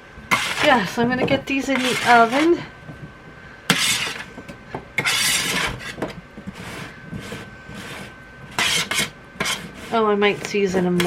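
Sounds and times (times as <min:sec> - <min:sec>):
pan of potatoes scraping: 0:00.3 - 0:02.7, 0:03.7 - 0:04.4, 0:05.0 - 0:11.0.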